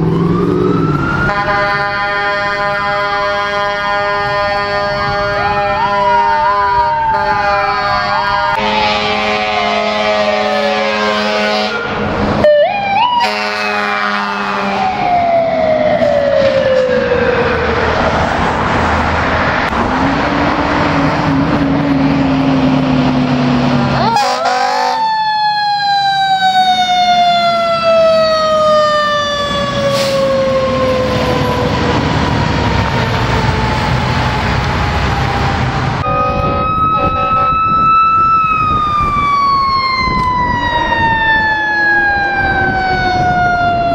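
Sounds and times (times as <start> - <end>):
mechanical siren wailing: 0.0 - 18.1, 23.9 - 43.9
engine and road noise: 0.0 - 43.9
rising siren sweeps: 0.0 - 43.9.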